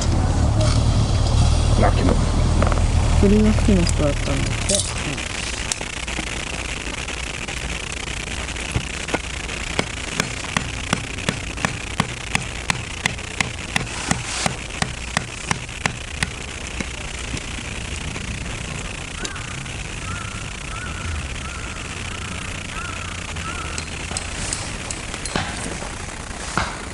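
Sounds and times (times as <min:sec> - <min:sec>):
grill sizzling: 0:00.0 - 0:26.9
sharp clicks: 0:03.5 - 0:25.8.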